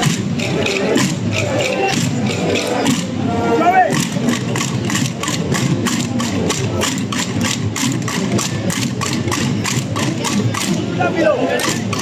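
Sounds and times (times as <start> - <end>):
massed drums beating: 0.0 - 12.0.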